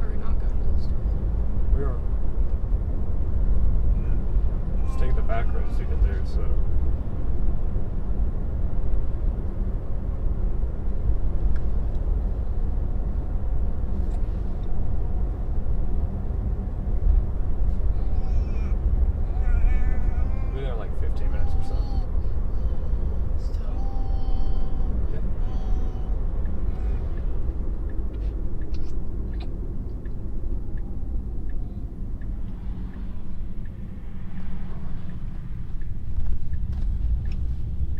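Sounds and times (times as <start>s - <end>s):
road and tyre rumble: 0.0s - 37.9s.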